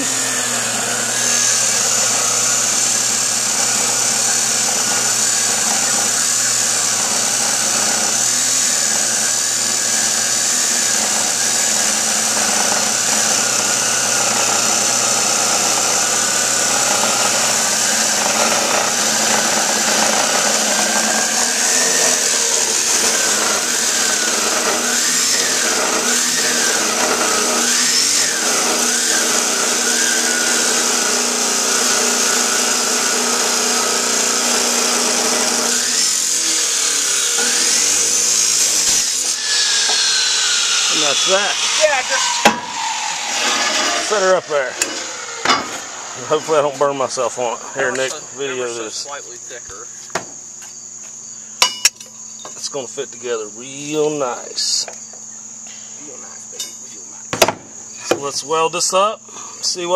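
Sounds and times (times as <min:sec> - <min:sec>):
chop saw grinding through steel pipe: 0:00.0 - 0:49.2.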